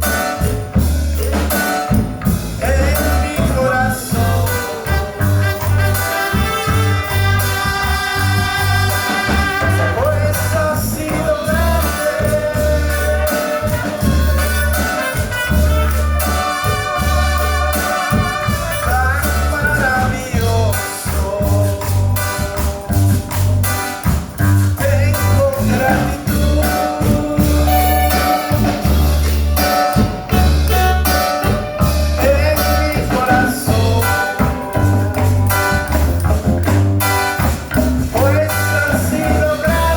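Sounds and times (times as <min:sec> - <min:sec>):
worship music with singing: 0:00.0 - 0:36.2, 0:37.1 - 0:39.9
busy percussion: 0:00.0 - 0:39.9
low bass beat: 0:00.0 - 0:39.9.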